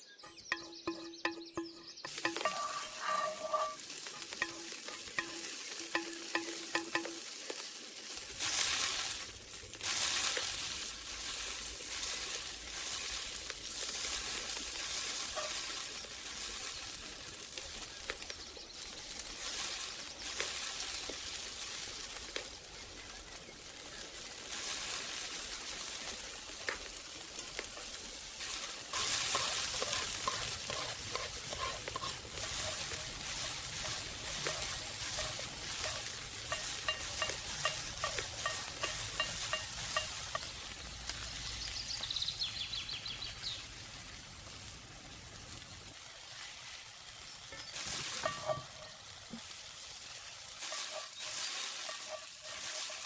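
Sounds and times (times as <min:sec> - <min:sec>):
food sizzling in a pan: 0:00.2 - 0:53.0.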